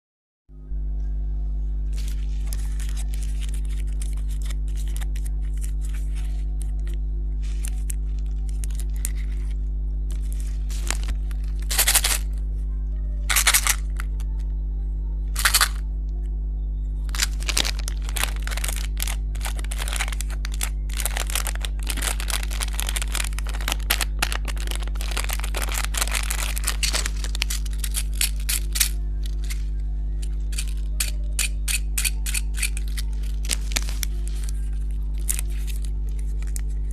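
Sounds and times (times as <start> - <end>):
low electrical hum: 0.5 - 36.9
plastic wrappers crinkling: 1.9 - 12.4, 13.3 - 14.3, 15.3 - 15.8, 17.1 - 36.9.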